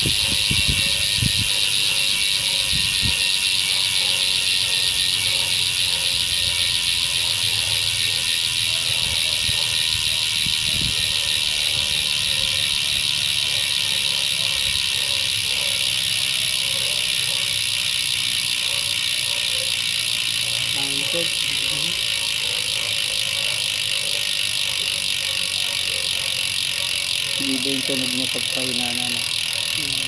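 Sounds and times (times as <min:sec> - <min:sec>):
bicycle hub freewheel ratcheting: 0:00.0 - 0:30.0.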